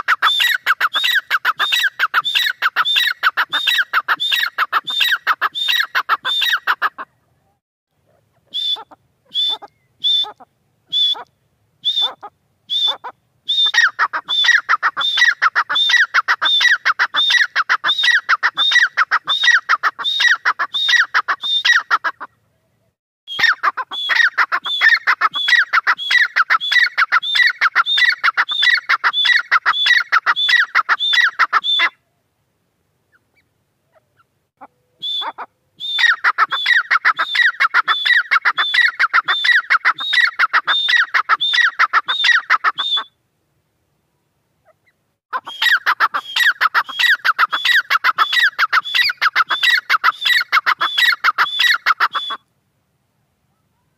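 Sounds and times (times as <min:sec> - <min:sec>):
francolin calling: 0:00.0 - 0:07.6, 0:08.4 - 0:22.7, 0:23.3 - 0:32.2, 0:33.1 - 0:43.2, 0:44.6 - 0:52.5.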